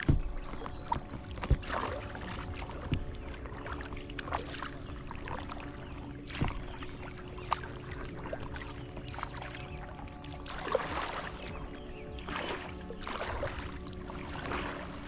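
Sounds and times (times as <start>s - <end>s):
paddle strokes: 0.0s - 15.0s
water splashing and lapping: 0.0s - 15.0s.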